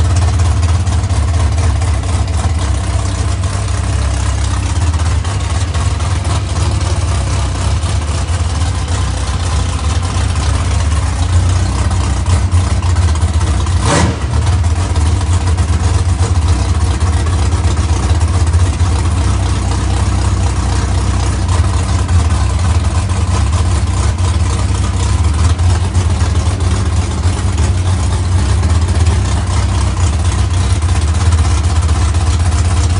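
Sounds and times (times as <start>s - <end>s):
race car engine idling: 0.0s - 32.9s.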